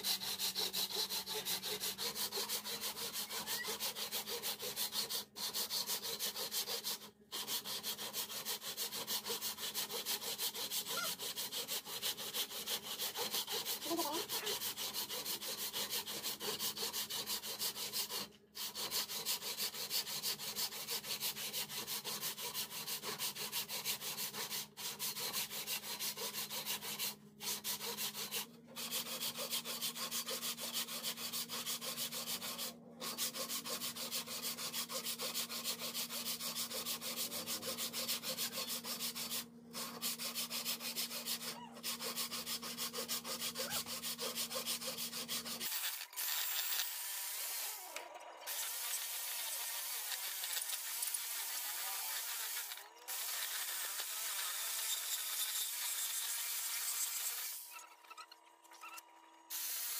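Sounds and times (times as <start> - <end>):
hand saw cutting wood: 0.0 - 58.2.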